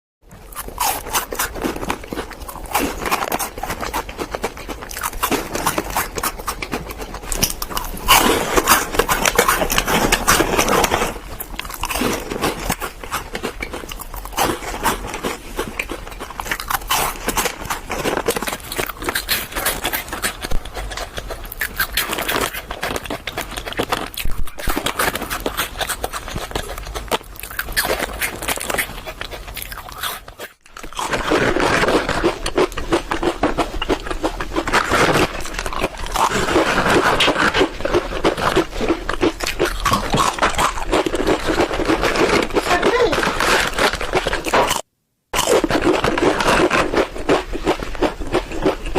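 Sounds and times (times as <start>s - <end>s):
crunching and chewing sweets: 0.2s - 48.9s.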